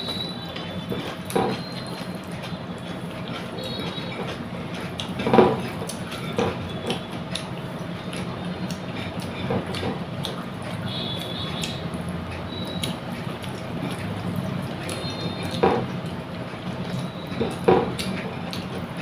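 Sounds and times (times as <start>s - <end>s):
wet eating and chewing: 0.0s - 19.0s.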